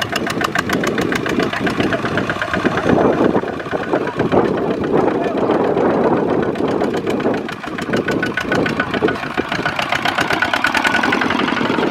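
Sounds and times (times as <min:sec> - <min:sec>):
small diesel engine knocking: 0:00.0 - 0:11.9.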